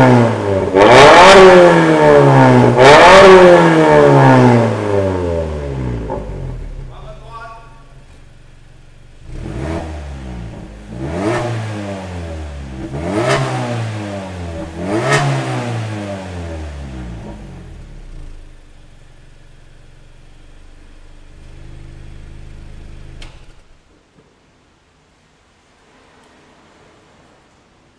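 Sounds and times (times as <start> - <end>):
car engine revving and idling: 0.0 - 23.8.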